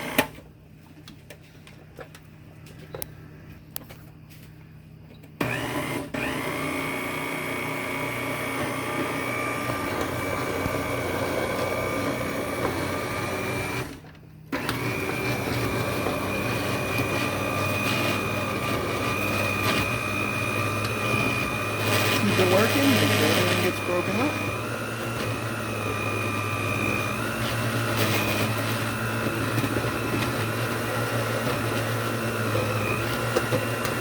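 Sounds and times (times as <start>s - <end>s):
blender motor whining: 0.0s - 0.4s, 5.4s - 34.0s.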